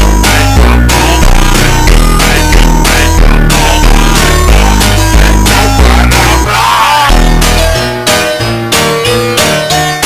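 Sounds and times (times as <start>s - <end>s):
electronic dance music: 0.0s - 9.6s.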